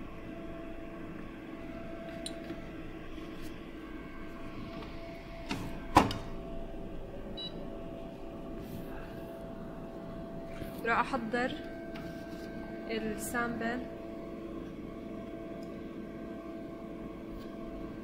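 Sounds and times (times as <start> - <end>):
lab instrument hum: 0.0 - 18.0.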